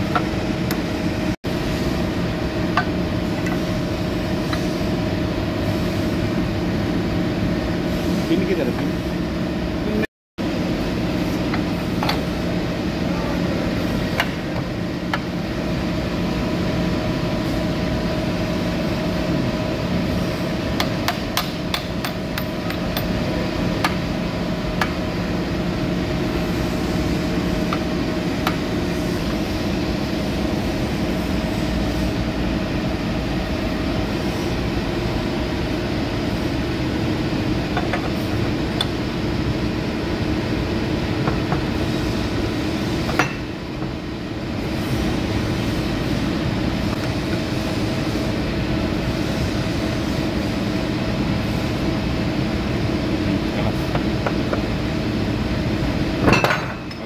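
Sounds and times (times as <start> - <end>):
workshop machine hum: 0.0 - 57.0.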